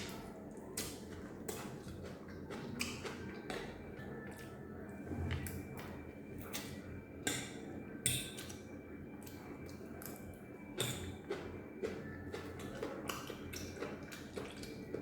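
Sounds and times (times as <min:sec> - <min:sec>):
person chewing noodles: 0:00.0 - 0:07.5, 0:09.2 - 0:15.0.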